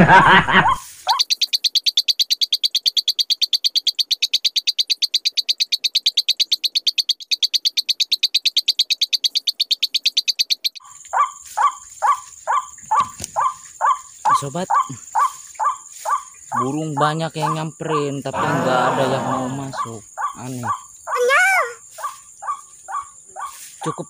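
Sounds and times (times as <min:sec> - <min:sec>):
lower falling calls: 0:00.1 - 0:24.0
high rapid chirping call: 0:00.6 - 0:24.0.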